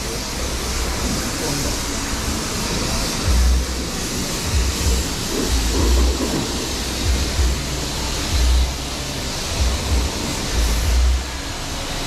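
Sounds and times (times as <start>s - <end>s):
low rumbles: 0.0s - 11.8s
pressure washer spraying: 0.0s - 12.0s.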